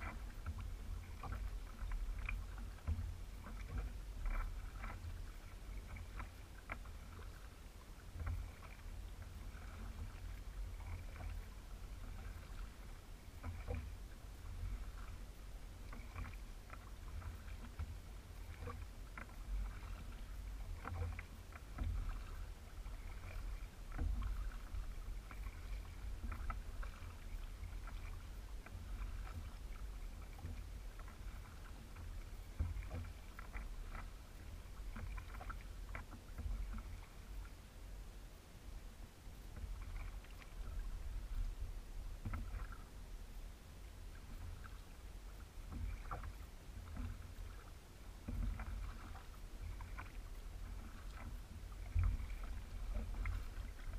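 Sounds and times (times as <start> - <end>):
water splashes and drips: 0.0 - 37.5, 42.2 - 42.9, 44.1 - 53.9
kayak paddle strokes in water: 0.0 - 53.9.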